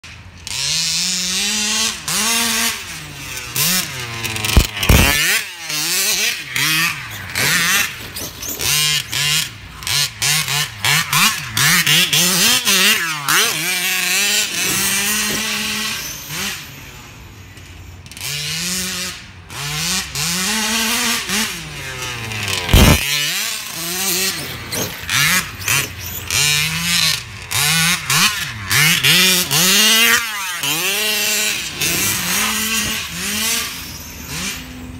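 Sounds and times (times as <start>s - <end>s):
rc car motors revving: 0.4s - 34.9s.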